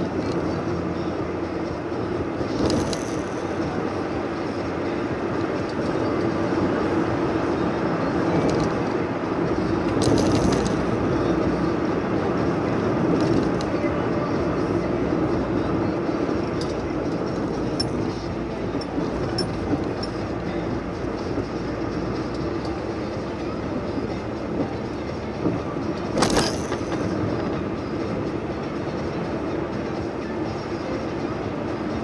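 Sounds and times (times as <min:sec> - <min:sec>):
car road noise from inside: 0:00.0 - 0:32.0.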